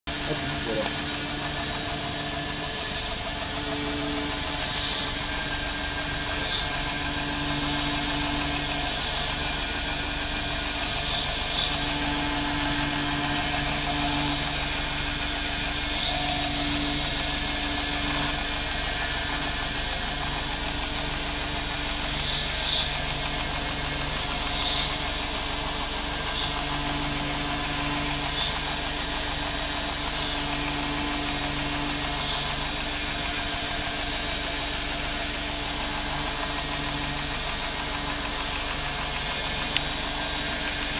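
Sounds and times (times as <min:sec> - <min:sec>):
low hum: 0:00.0 - 0:40.9
belt grinder grinding: 0:00.1 - 0:40.9.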